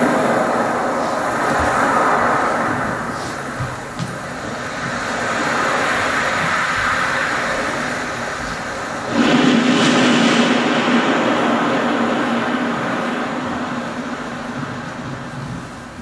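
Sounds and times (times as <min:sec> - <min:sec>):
rushing rumbling noise: 0:00.0 - 0:16.0.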